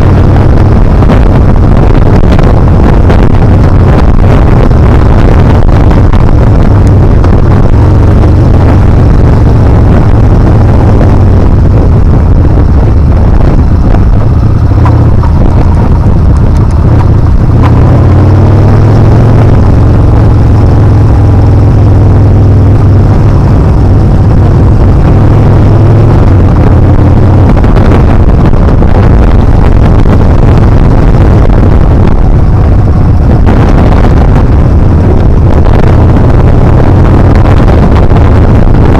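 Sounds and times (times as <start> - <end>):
motorcycle engine running: 0.0 - 38.9
wind buffeting on microphone: 0.0 - 38.9.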